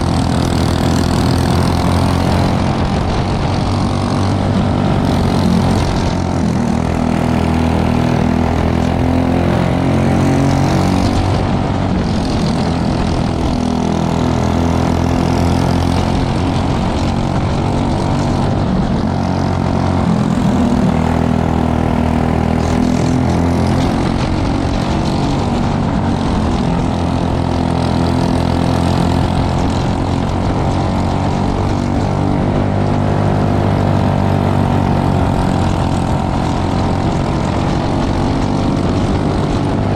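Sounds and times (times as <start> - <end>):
go-kart engines racing: 0.0 - 39.9.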